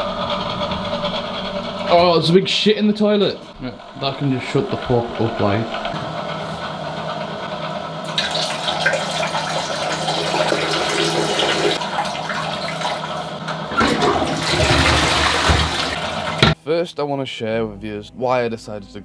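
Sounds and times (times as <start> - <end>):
toilet flushing: 0.0 - 16.6.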